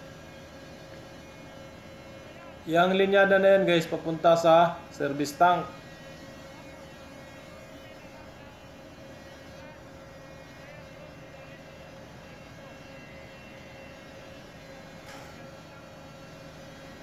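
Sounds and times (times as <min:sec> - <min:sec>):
machinery hum with held tone: 0:00.0 - 0:17.0.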